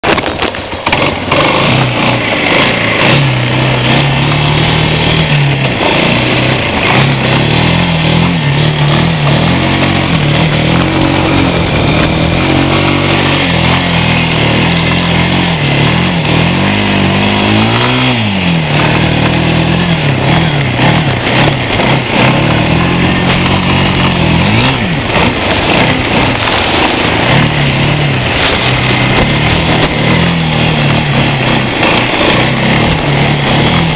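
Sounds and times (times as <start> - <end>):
atv engine revving: 0.0 - 33.9
wind buffeting microphone: 5.1 - 33.9.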